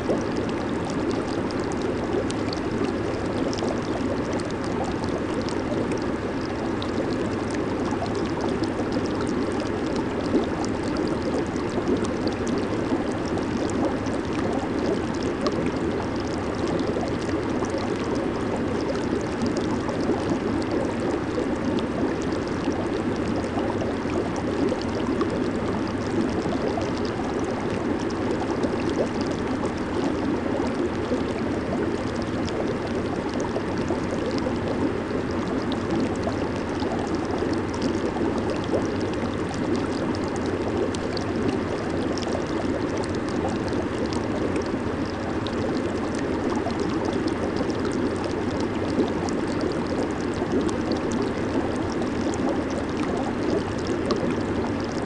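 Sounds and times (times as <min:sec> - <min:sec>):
jacuzzi water bubbling: 0:00.0 - 0:55.0.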